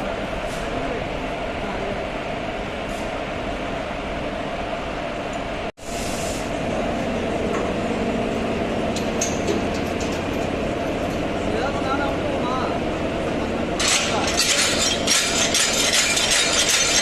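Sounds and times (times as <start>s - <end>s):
train rail noise: 0.0s - 17.0s.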